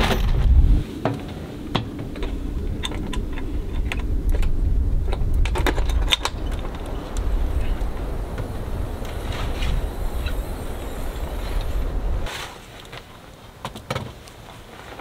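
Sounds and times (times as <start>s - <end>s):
wind on microphone: 0.0s - 12.3s.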